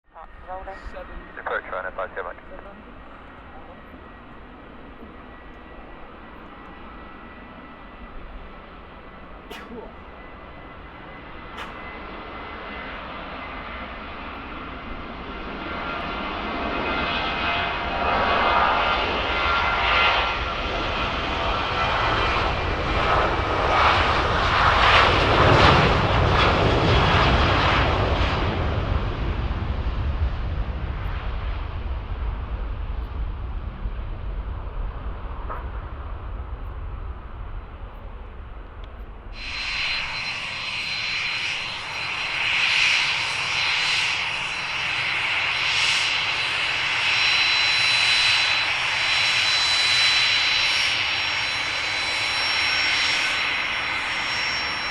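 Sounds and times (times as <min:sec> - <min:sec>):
jet engines at takeoff: 0:00.1 - 0:54.9.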